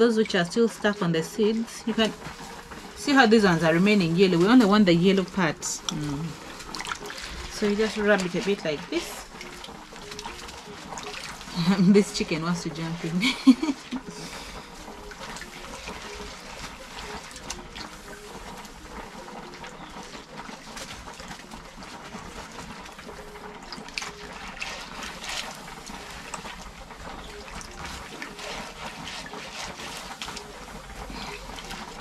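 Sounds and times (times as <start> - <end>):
water splashing and trickling: 0.0 - 32.0
hands rubbing seeds in water: 1.4 - 32.0.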